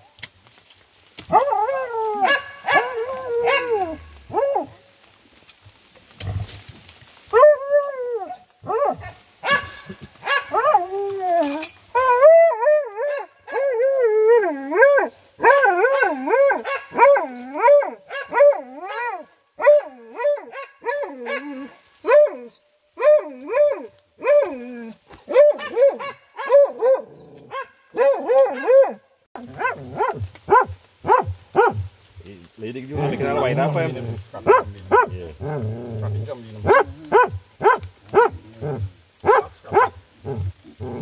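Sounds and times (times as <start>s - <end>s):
hounds baying and yelping: 1.3s - 4.9s, 7.3s - 31.9s, 34.3s - 41.0s.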